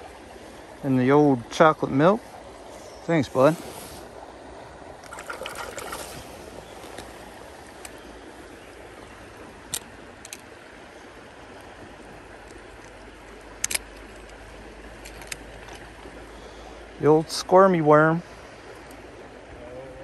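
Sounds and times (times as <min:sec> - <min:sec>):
creek water running: 0:00.0 - 0:20.0.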